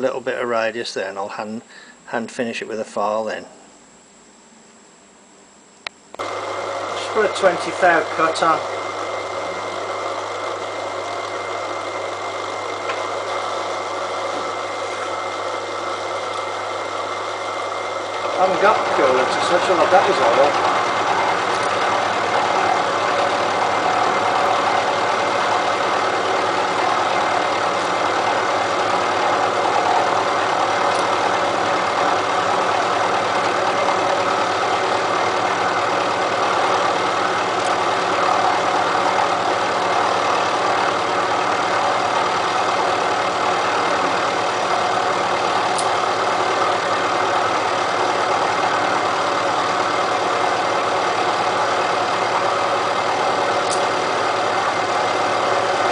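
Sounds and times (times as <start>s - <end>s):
milling machine cutting steel: 6.2s - 55.9s.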